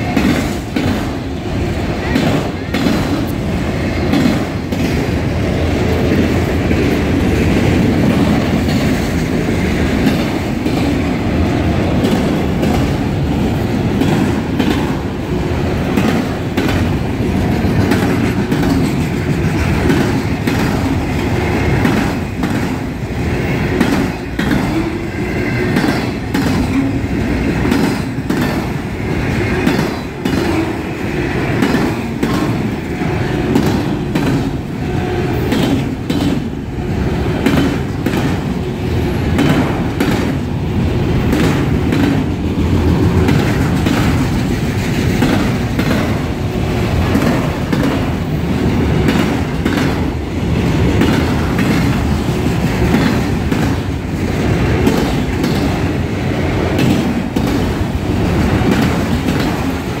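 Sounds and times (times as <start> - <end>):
freight train rumbling: 0.0 - 60.0
wheels clicking over rail joints: 2.0 - 34.7, 35.3 - 36.7, 37.3 - 60.0.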